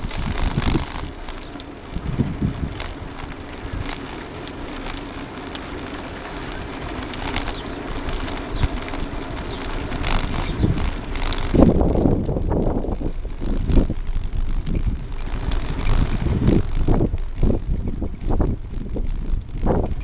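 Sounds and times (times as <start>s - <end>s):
bicycle rattling on concrete: 0.0s - 20.0s
wind rumbling on microphone: 0.0s - 20.0s.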